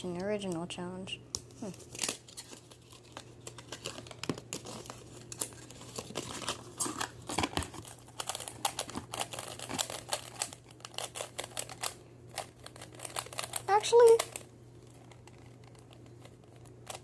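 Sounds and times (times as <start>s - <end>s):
faint steady hum: 0.0s - 17.0s
plastic packaging crinkling: 1.6s - 17.0s.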